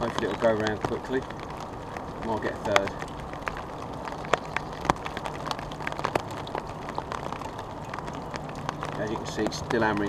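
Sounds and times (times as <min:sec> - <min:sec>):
heavy rain on umbrella canopy: 0:00.0 - 0:10.0.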